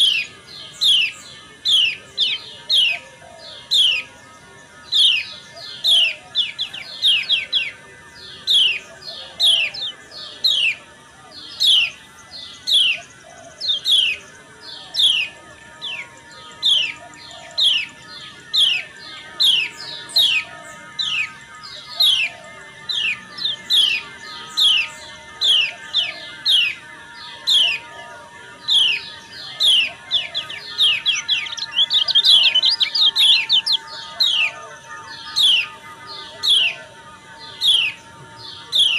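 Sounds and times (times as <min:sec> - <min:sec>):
bird calling sharp notes: 0:00.0 - 0:38.9.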